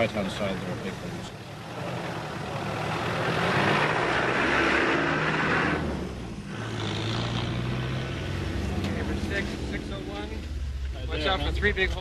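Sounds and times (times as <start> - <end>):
diesel engine driving under load: 0.0 - 12.0.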